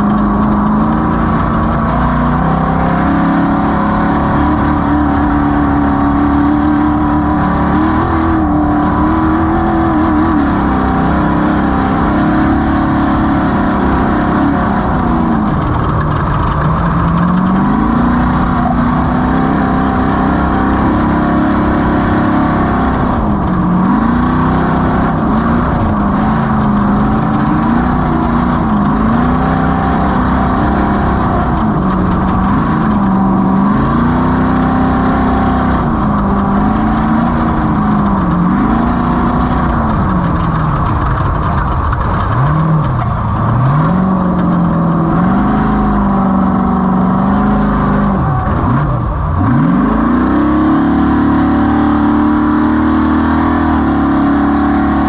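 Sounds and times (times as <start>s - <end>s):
race vehicle engine revving: 0.0s - 55.0s
steady rushing noise: 0.0s - 55.0s.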